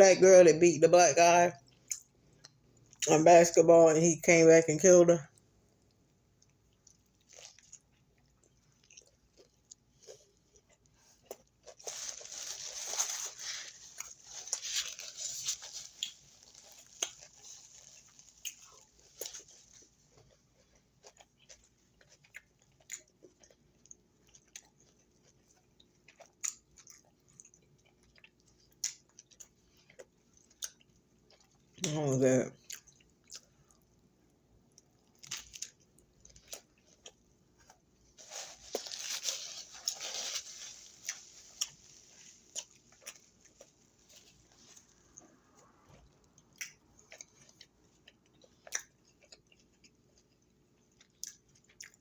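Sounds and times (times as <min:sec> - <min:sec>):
person crunching and chewing food: 0:00.0 - 0:52.0.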